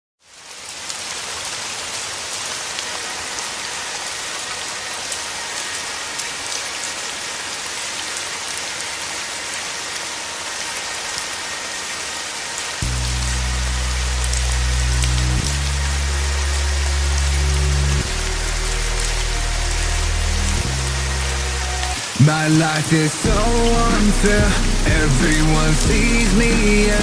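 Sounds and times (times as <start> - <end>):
heavy rain falling: 0.2 - 27.0.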